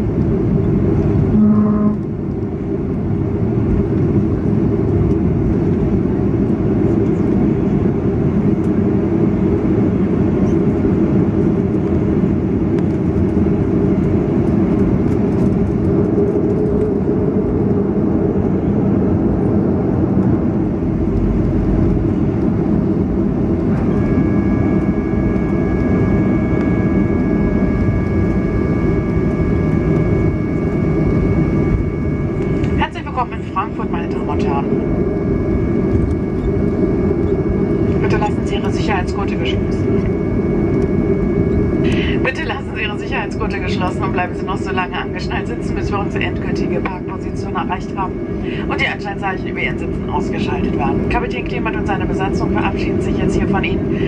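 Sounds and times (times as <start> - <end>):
high whine: 0.0 - 4.3, 6.8 - 54.0
jet engines low rumble: 0.0 - 54.0.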